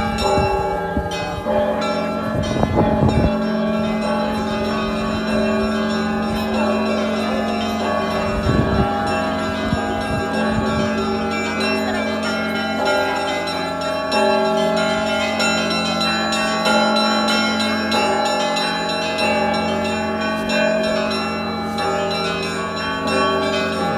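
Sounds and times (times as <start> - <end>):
church bells ringing: 0.0 - 23.9.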